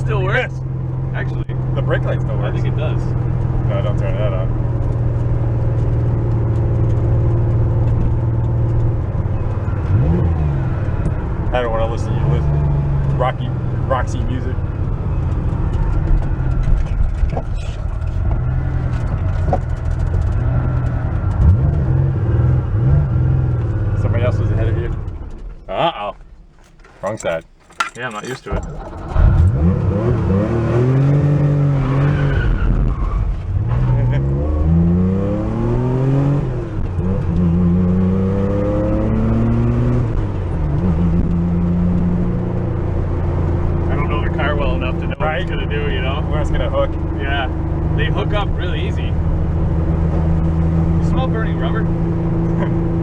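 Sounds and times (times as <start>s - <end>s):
car engine droning from inside cabin: 0.0s - 53.0s.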